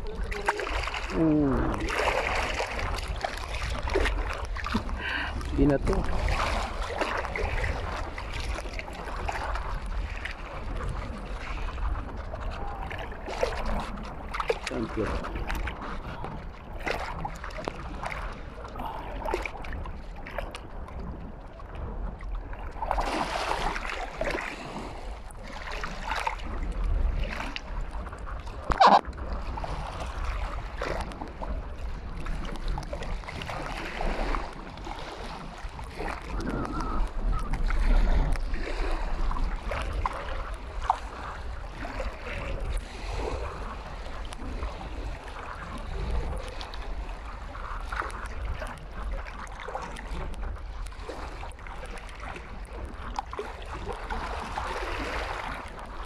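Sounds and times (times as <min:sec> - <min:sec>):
water splashing and lapping: 0:00.0 - 0:56.0
wind buffeting microphone: 0:00.0 - 0:56.0.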